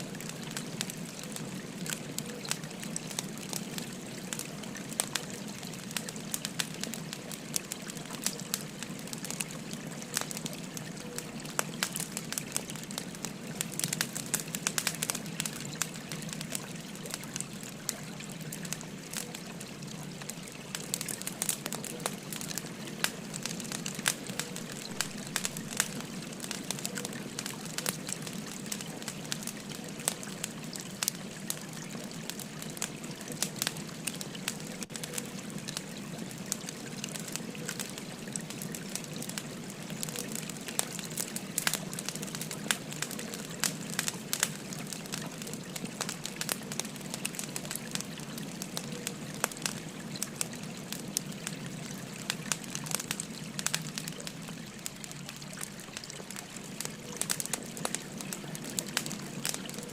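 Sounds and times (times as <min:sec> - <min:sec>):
stream babbling: 0:00.0 - 0:59.9
wood fire crackling and popping: 0:00.0 - 0:59.9.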